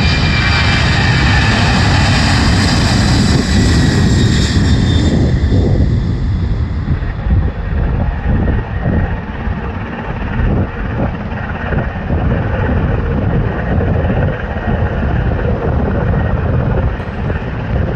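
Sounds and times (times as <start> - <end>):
jet engines roaring: 0.0 - 17.9.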